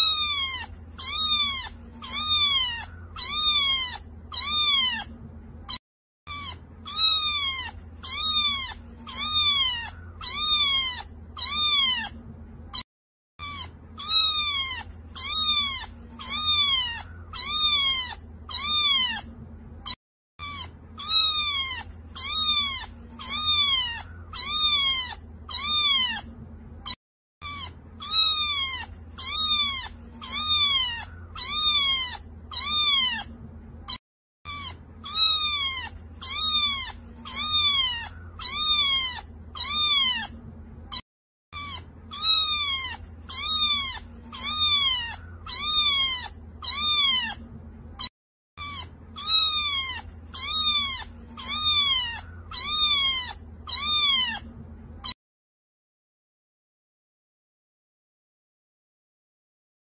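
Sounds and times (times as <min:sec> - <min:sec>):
cat meowing: 0:00.0 - 0:12.8, 0:13.4 - 0:47.4, 0:48.0 - 0:55.2.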